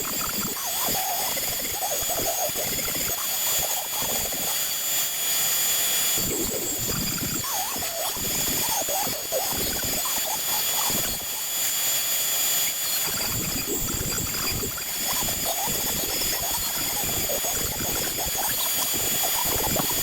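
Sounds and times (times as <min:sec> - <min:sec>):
cnc router whining: 0:00.0 - 0:20.0.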